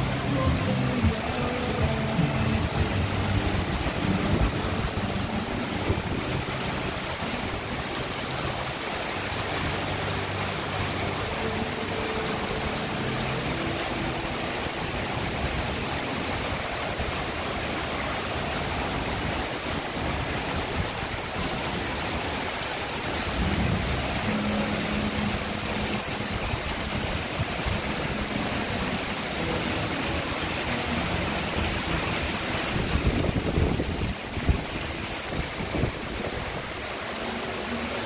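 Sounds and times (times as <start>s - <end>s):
heavy rain on water and wood: 0.0s - 38.0s.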